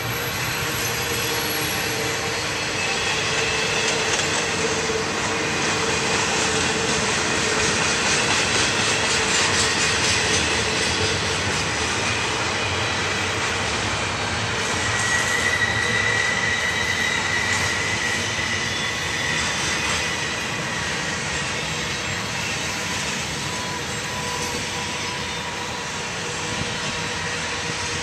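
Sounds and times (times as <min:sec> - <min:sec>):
freight train passing: 0:00.0 - 0:28.0.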